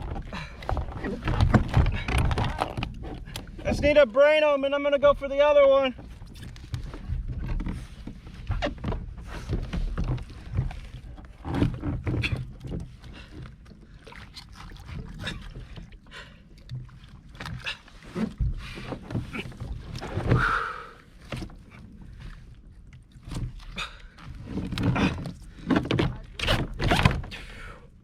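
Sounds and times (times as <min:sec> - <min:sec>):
knocks and clatter on kayak: 0:00.0 - 0:27.7.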